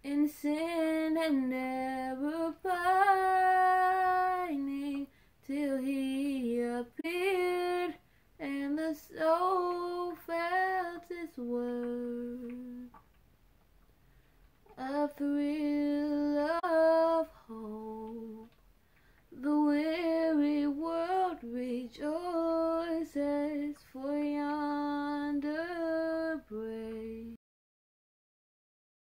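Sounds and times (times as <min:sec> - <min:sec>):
woman singing unaccompanied: 0:00.0 - 0:13.0, 0:14.7 - 0:18.6, 0:19.3 - 0:27.4.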